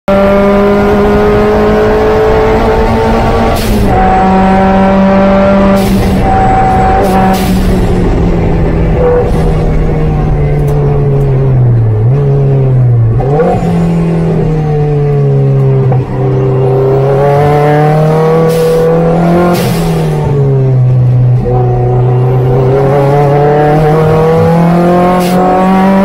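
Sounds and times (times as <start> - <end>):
car engine revving hard: 0.1 - 26.0.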